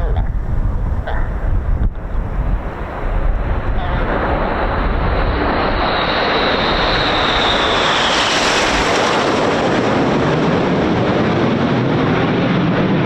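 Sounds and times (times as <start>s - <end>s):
jets passing by: 0.0s - 13.0s
wind buffeting microphone: 0.0s - 13.0s.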